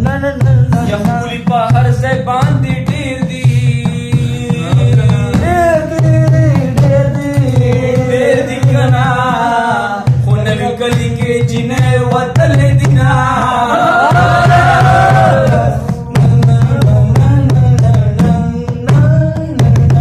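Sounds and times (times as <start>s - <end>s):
hand drumming on plastic container: 0.0s - 20.0s
person folk singing: 0.0s - 20.0s.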